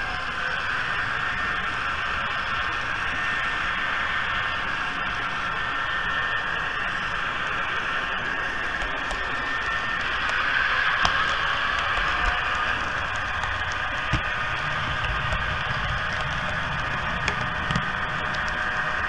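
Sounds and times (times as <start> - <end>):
model train whirring on track: 0.0 - 19.0.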